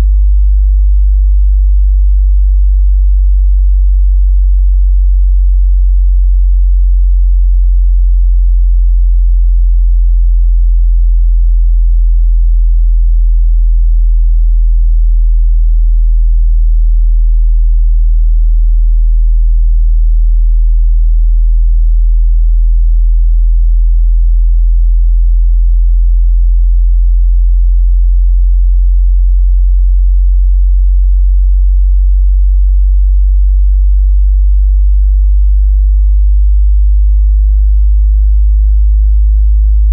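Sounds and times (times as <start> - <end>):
sub-bass sine tone: 0.0 - 39.9.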